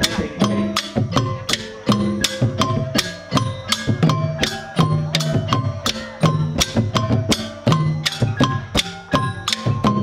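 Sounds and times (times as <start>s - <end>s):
hand drums beating: 0.0s - 10.0s.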